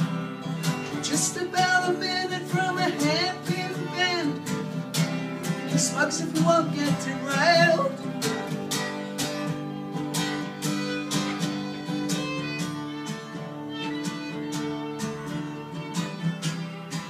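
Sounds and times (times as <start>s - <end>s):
acoustic guitar strumming: 0.0s - 17.0s
fiddle playing long notes: 0.0s - 17.0s.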